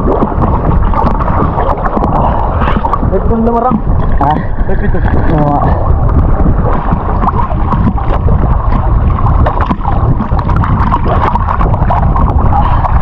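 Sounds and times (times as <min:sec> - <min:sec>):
bubbling clicks and crackles: 0:00.0 - 0:13.0
muffled rush of seawater: 0:00.0 - 0:13.0.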